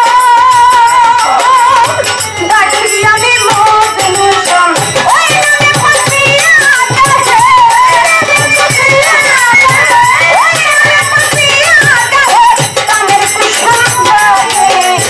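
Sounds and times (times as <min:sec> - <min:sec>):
fast hand percussion: 0:00.0 - 0:15.0
woman singing: 0:00.0 - 0:15.0.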